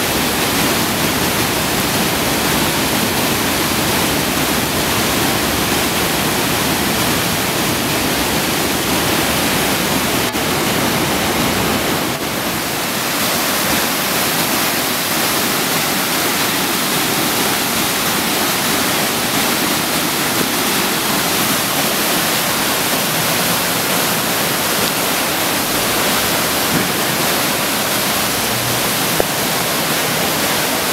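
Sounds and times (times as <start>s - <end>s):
floodwater rushing: 0.0s - 30.9s.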